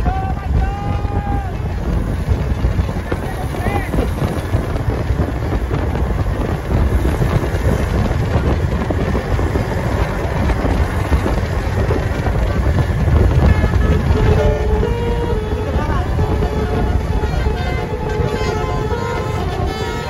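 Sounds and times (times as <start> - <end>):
bus engine rumble and road noise: 0.0 - 20.0
wind buffeting microphone: 0.0 - 20.0.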